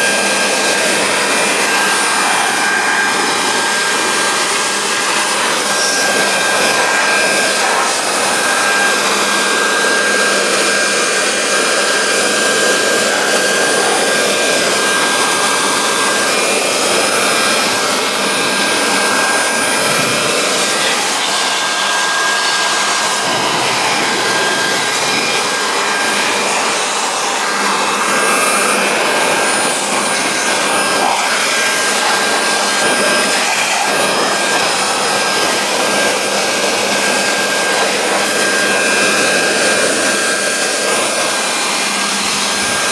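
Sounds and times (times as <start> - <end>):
high motor whine: 0.0 - 42.9
leaf blower air rushing: 0.0 - 42.9.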